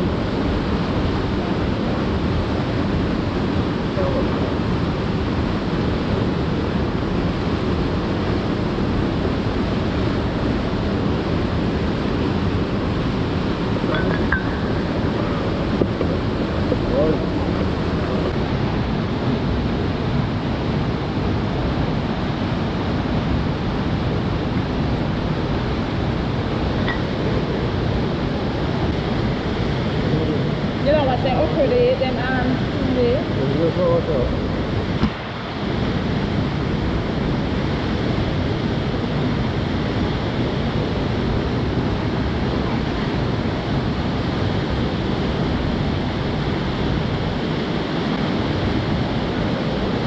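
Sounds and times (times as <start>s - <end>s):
water rushing: 0.0s - 50.0s.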